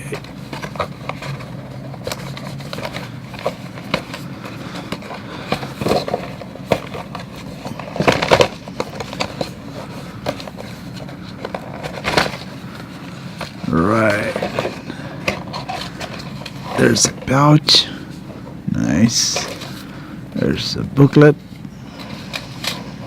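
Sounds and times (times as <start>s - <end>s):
box scraping: 0.0s - 20.0s.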